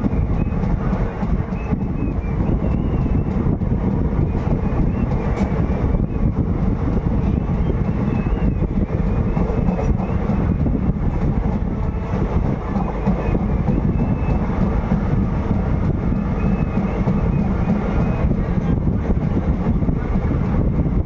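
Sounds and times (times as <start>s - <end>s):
wheels clicking over rail joints: 0.0s - 19.6s
train wheels rumbling on rails: 0.0s - 21.0s.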